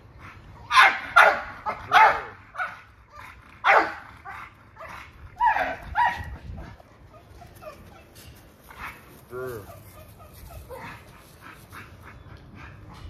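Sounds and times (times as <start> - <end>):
dogs barking: 0.3 - 13.0.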